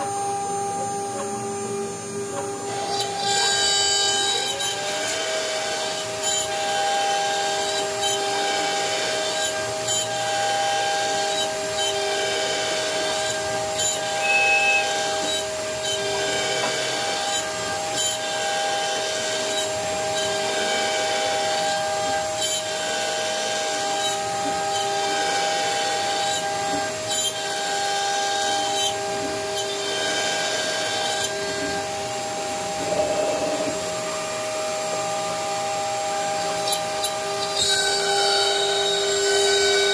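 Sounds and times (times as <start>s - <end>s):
cnc router spindle whine: 0.0s - 39.9s
router bit milling wood: 0.0s - 39.9s.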